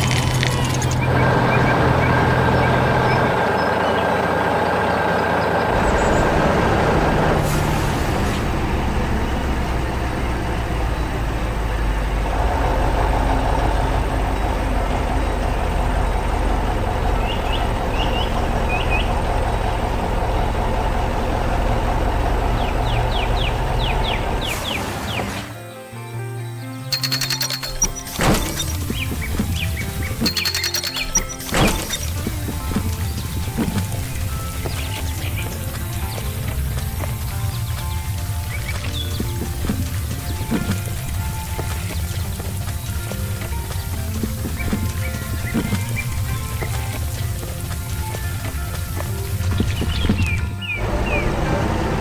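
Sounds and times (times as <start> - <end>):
diesel construction machine running: 0.0 - 25.6, 26.9 - 52.0.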